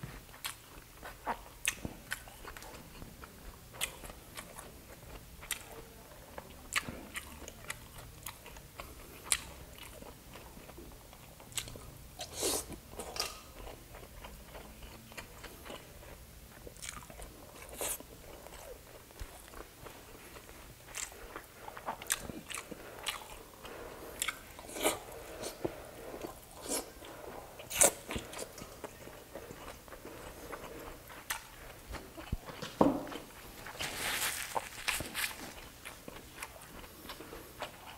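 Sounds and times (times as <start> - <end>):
person chewing food: 0.2 - 37.9.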